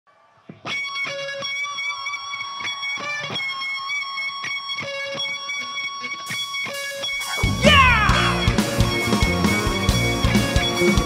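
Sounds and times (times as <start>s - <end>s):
electric guitar picked notes ringing: 0.6s - 11.0s.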